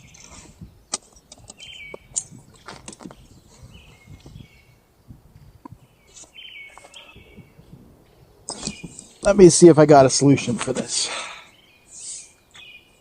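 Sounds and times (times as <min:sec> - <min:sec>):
birds chirping song: 0:00.0 - 0:13.0.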